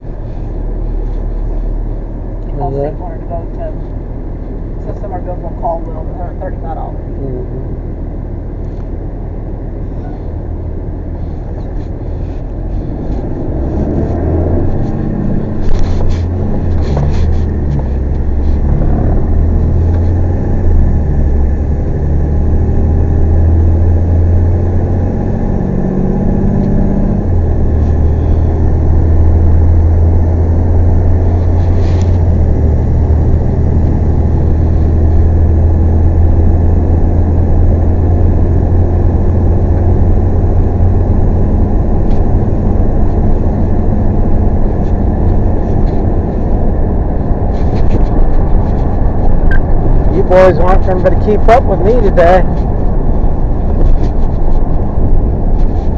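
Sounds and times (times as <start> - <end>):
road noise: 0.0 - 55.9
truck engine drone: 0.0 - 55.9.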